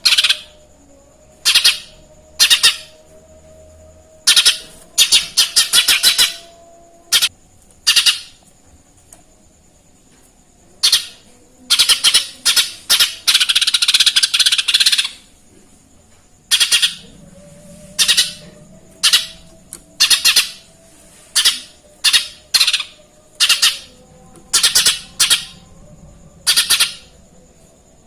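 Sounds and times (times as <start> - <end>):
songbird chirping: 0.0 - 28.0.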